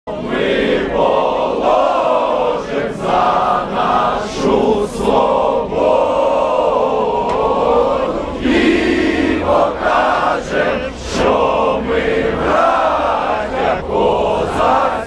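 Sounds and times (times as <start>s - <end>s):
crowd singing an anthem: 0.1s - 15.0s.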